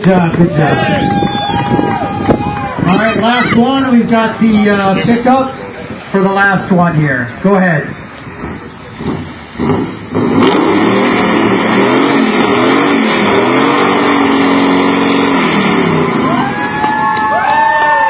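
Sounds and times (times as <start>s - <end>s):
truck engine revving: 1.0s - 17.4s.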